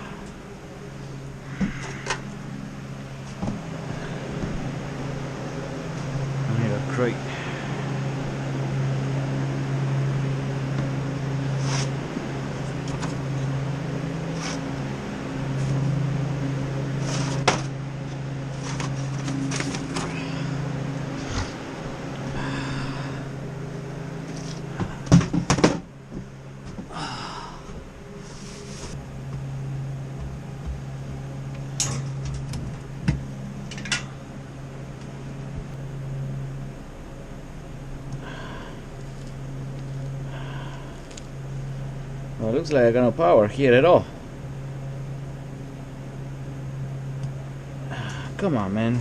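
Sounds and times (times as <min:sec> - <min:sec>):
refrigeration machinery humming: 0:00.0 - 0:49.0.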